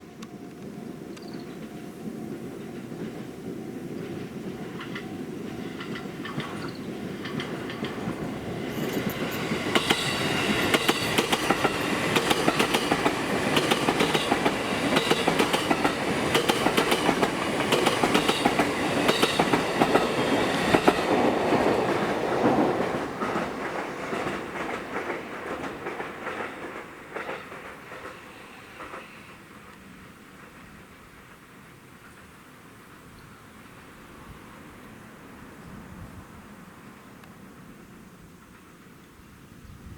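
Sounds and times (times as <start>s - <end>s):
train wheels clacking over rails: 0.5s - 33.5s.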